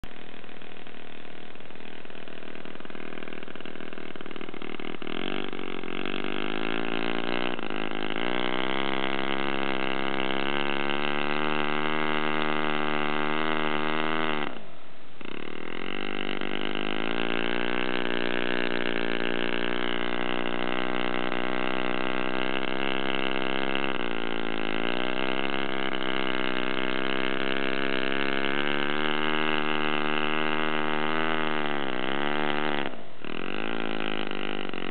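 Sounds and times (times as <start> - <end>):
model engine running with propeller: 0.0 - 34.9.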